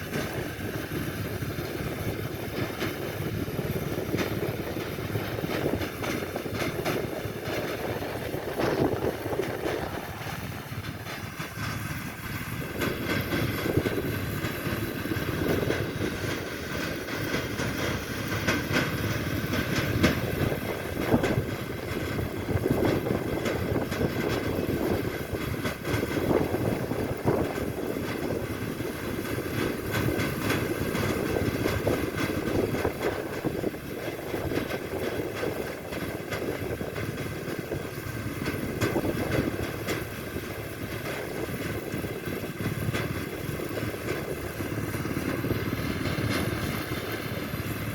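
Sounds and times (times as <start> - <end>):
harvesting machinery running: 0.0 - 47.9.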